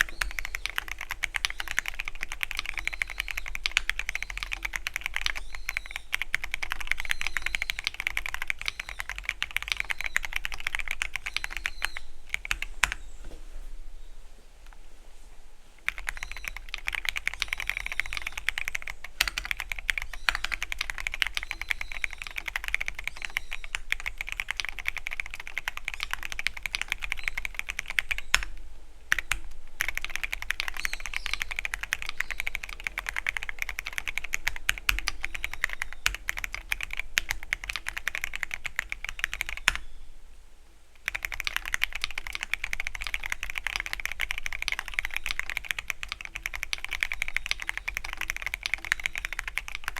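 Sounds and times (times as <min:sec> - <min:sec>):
fast typing on mechanical keyboard: 0:00.0 - 0:13.1, 0:15.8 - 0:39.9, 0:41.0 - 0:49.9.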